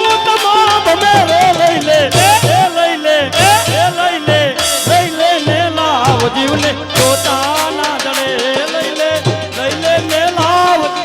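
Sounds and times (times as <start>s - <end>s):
fast percussion ticks: 0.0s - 11.0s
wavering folk melody: 0.0s - 11.0s
low drum beat: 0.7s - 11.0s.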